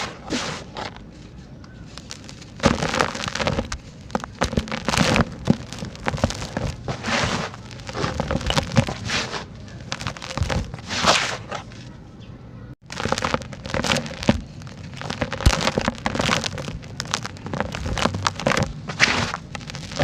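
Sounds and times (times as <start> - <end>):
sand-cement chunks crumbling: 0.0 - 11.9, 12.8 - 20.0
grainy trickling: 1.8 - 10.9, 12.8 - 20.0.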